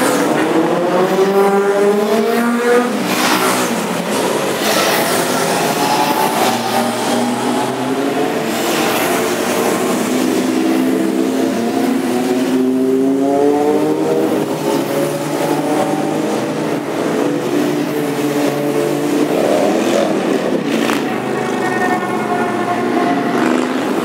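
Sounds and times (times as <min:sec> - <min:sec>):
motorcycles passing by: 0:00.0 - 0:24.0.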